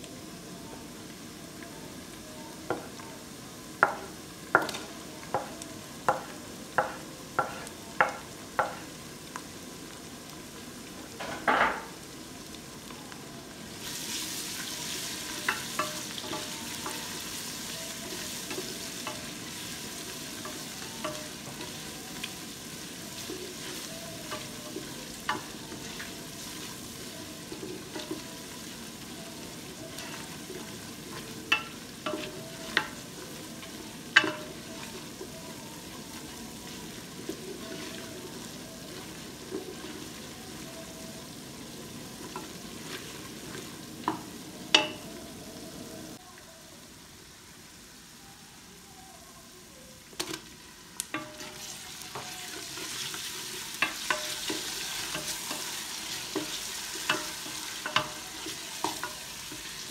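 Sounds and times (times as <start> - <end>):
onions sizzling in hot oil: 0.0 - 59.9.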